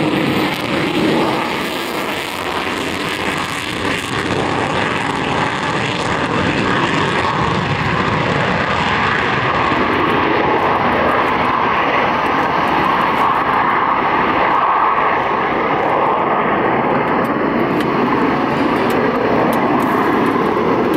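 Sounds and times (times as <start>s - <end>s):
jet roar: 0.0s - 20.9s.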